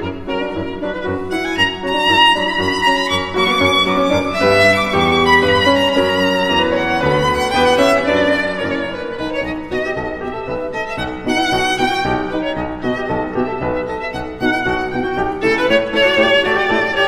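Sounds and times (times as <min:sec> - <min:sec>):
violin melody with vibrato: 0:00.0 - 0:17.0.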